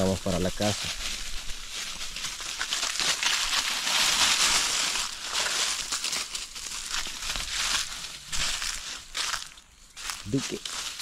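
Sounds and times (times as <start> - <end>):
footsteps crunching dry leaves: 0.0 - 11.0.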